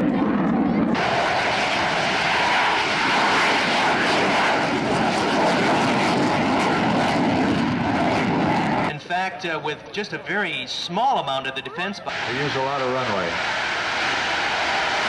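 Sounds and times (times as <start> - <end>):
airplane engines roaring past: 0.0 - 9.1, 12.0 - 15.0.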